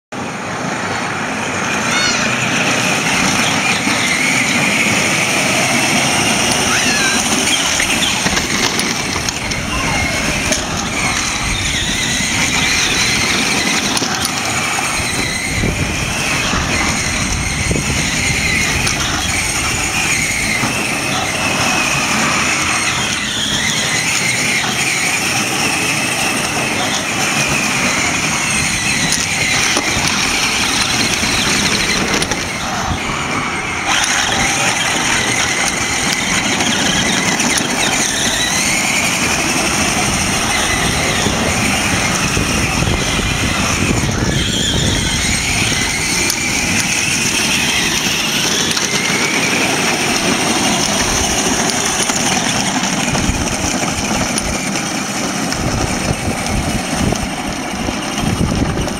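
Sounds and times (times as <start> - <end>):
plastic wheels rolling on concrete: 0.2 - 58.9
toy car electric motors whining: 1.2 - 58.9.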